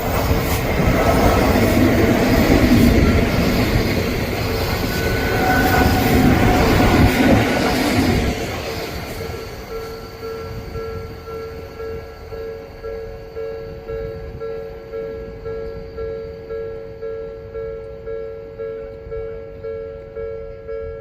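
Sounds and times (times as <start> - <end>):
electric train passing: 0.0 - 21.0
level crossing warning bell: 1.8 - 21.0.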